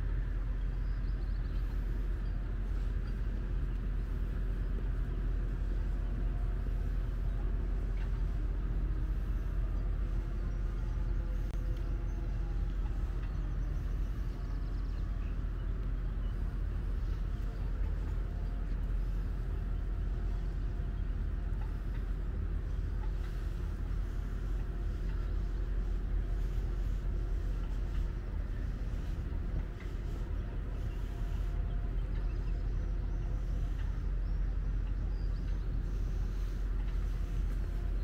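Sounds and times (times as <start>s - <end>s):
faint constant hum: 0.0s - 38.0s
low engine rumble: 0.0s - 38.0s.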